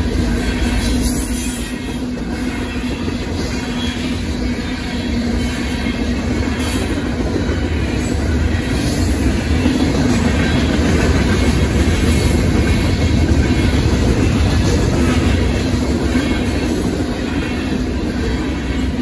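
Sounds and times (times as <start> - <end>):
steel train wheels on rails: 0.0 - 19.0.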